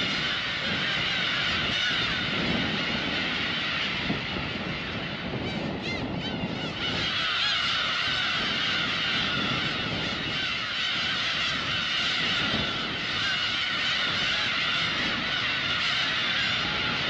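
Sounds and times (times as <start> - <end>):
gull colony calling: 0.0 - 17.0.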